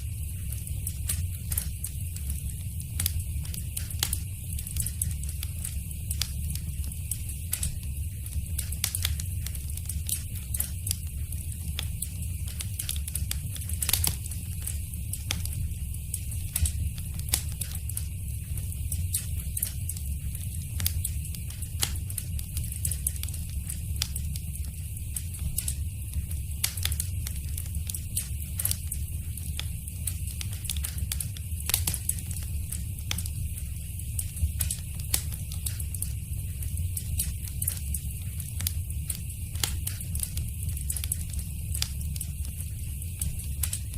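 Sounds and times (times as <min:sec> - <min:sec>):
fire low rumble: 0:00.0 - 0:43.9
wood fire crackling: 0:00.0 - 0:43.9.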